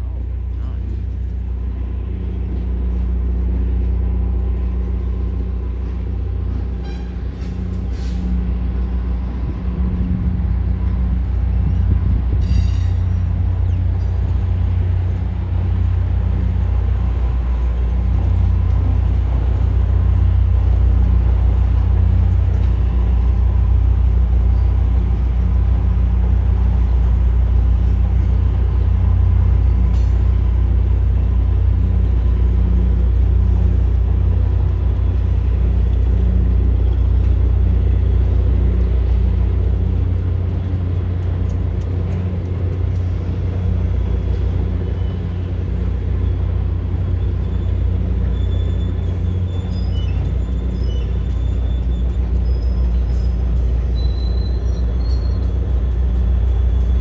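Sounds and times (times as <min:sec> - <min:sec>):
diesel train engine rumbling: 0:00.0 - 0:57.0.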